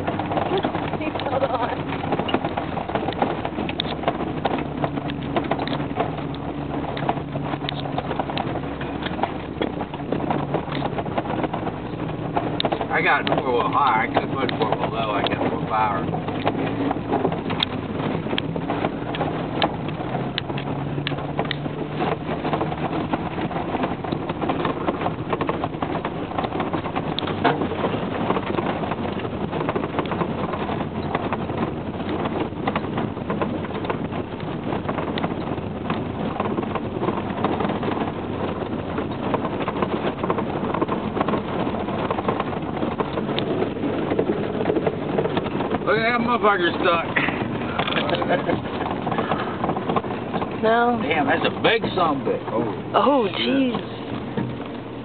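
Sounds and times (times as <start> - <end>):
knocks and rattles: 0.0 - 55.0
truck engine under load: 0.0 - 55.0.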